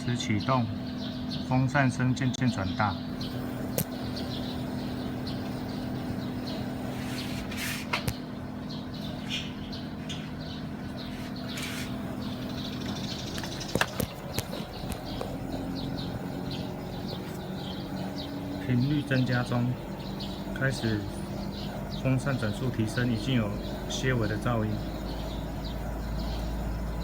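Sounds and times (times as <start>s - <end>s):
air conditioner humming: 0.0s - 27.0s
birds chirping: 0.0s - 27.0s.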